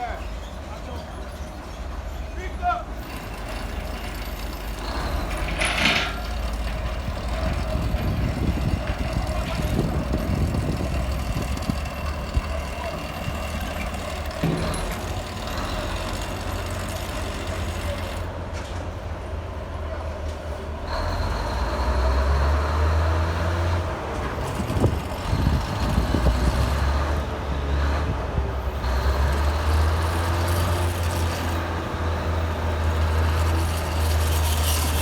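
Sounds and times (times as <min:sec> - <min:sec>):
heavy diesel engine rumble: 0:00.0 - 0:35.0.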